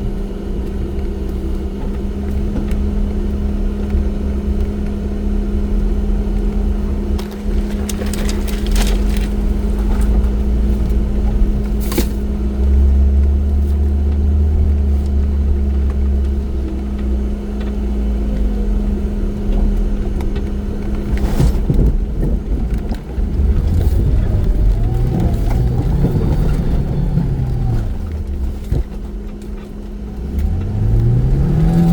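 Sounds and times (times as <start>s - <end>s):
off-road vehicle engine droning: 0.0s - 31.9s.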